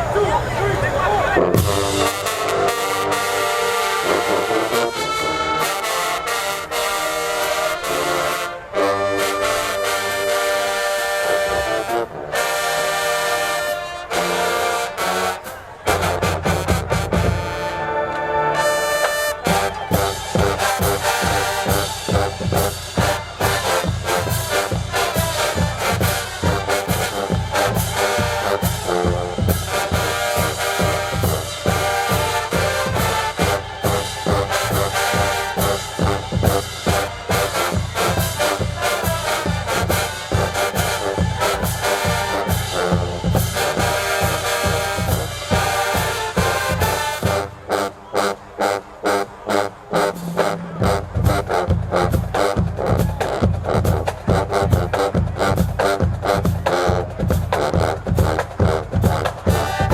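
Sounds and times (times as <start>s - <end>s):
marching band brass: 0.0s - 59.9s
drumline beat: 1.4s - 17.8s, 18.6s - 59.9s.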